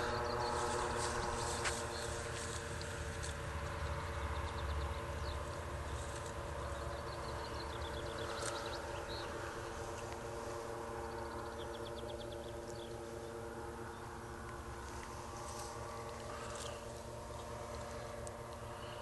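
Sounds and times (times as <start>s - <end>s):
distant paramotor engine droning: 0.0s - 19.0s.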